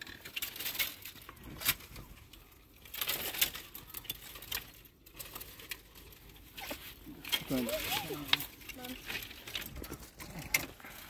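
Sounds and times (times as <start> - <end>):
branches cracking and snapping: 0.0 - 11.0
twigs rustling: 0.0 - 11.0.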